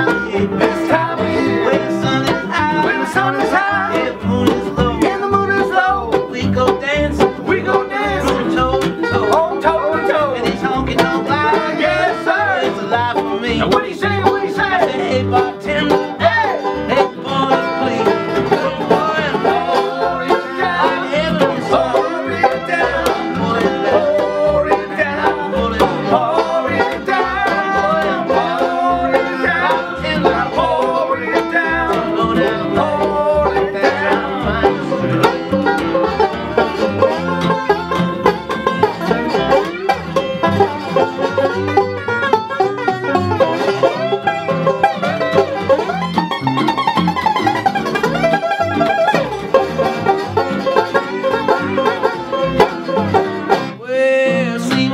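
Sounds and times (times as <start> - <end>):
acoustic guitar: 0.0 - 54.9
fast banjo picking: 0.0 - 54.9
upright bass: 0.0 - 54.9.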